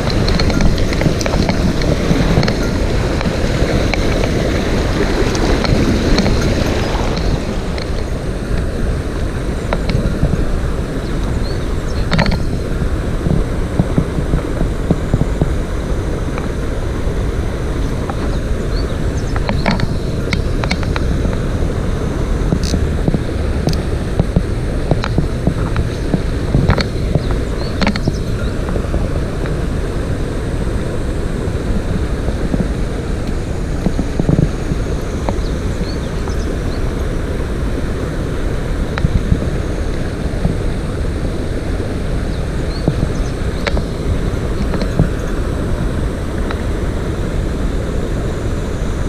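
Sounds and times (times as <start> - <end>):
mountain stream rushing: 0.0 - 49.0
wind buffeting microphone: 0.0 - 49.0.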